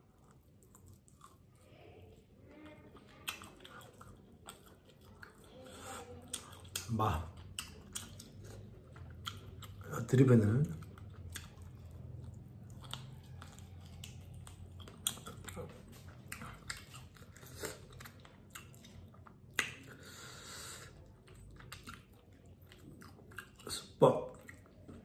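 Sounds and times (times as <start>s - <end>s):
person chewing with mouth clicks: 0.0s - 25.0s.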